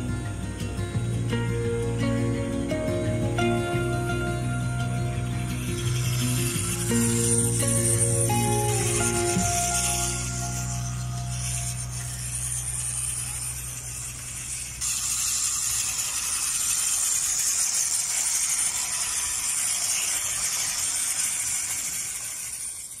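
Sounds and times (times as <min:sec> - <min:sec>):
electric motor whirring: 0:00.0 - 0:23.0.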